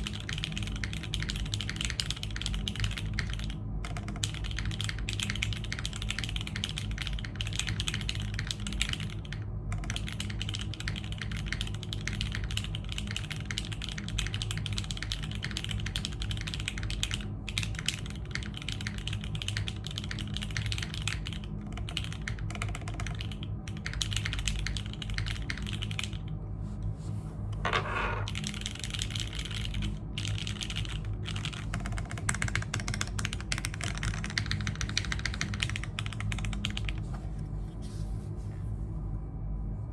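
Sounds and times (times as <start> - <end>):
fast mechanical keyboard typing: 0.0 - 26.3, 28.2 - 37.1
steady low hum: 0.0 - 39.9.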